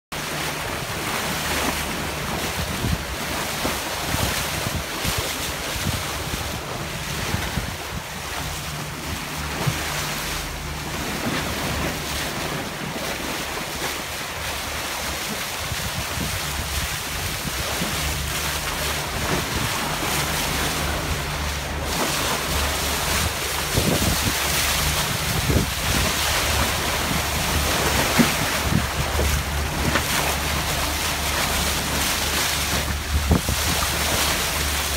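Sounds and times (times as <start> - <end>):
sea water splashing against hull: 0.1 - 34.9
wind buffeting microphone: 1.8 - 13.3, 15.2 - 34.9.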